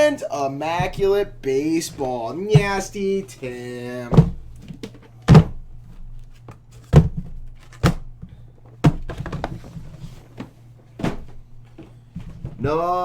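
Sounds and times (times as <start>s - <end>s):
objects thudding down: 0.6s - 12.7s.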